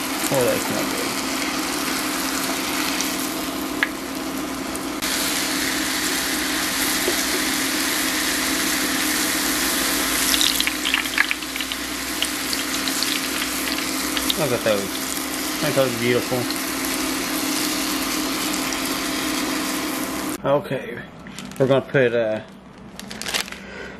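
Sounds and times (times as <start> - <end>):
deep-frying oil sizzling: 0.0 - 20.4.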